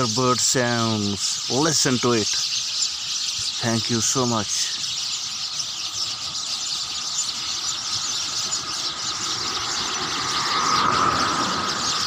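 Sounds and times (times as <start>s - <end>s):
lower steady bird call: 0.0s - 12.0s
small birds chirping: 0.0s - 12.0s.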